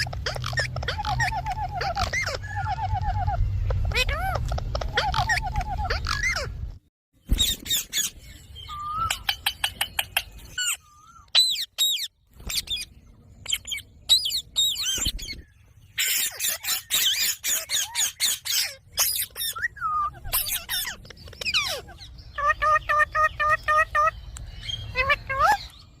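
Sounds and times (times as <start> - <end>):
parakeets squawking and chirping: 0.0 - 26.0.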